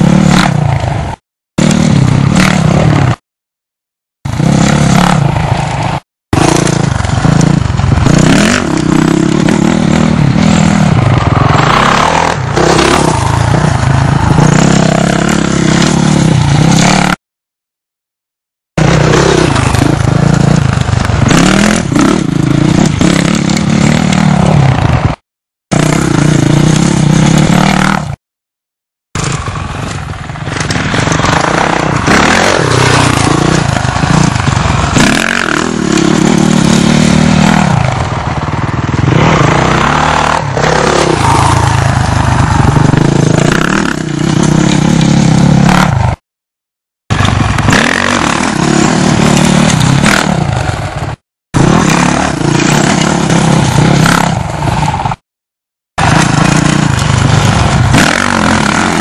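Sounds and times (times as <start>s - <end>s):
dirt bike engines revving: 0.0s - 3.2s, 4.3s - 17.2s, 18.8s - 28.2s, 29.2s - 46.2s, 47.1s - 55.2s, 56.0s - 59.0s.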